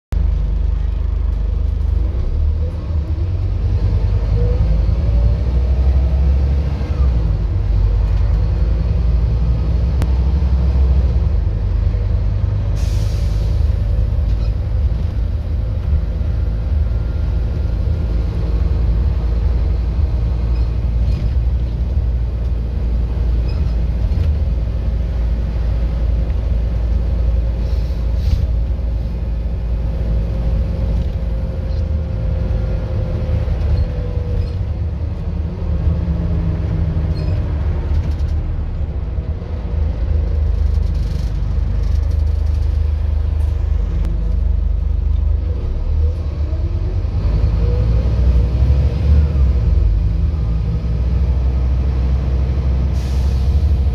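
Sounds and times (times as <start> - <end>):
bus engine rumble: 0.1 - 53.9.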